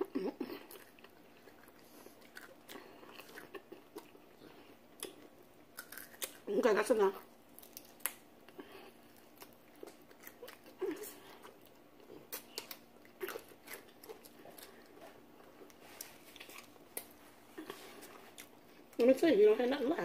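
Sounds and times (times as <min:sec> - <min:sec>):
chewing crispy chicken: 0:00.5 - 0:19.0.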